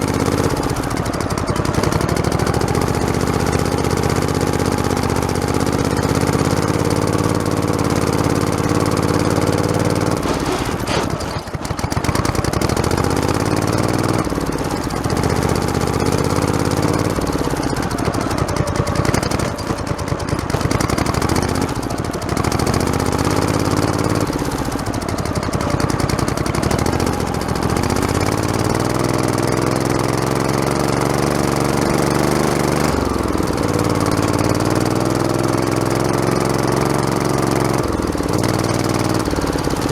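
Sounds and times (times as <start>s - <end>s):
camera rattling over bumps: 0.0s - 36.4s
lawn tractor engine labouring: 0.0s - 39.9s.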